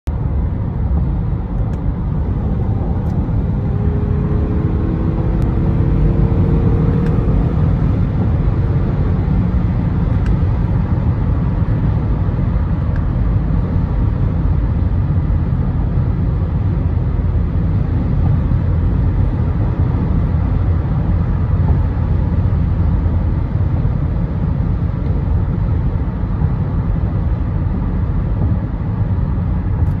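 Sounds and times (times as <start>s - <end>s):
road and tyre rumble: 0.0s - 30.0s.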